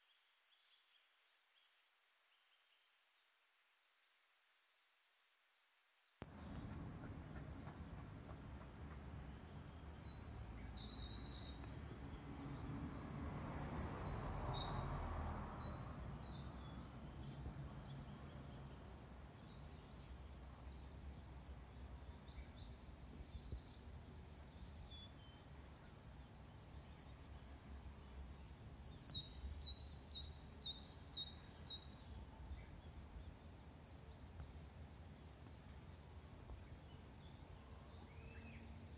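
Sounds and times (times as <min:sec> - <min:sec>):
small birds chirping: 0:04.5 - 0:38.9.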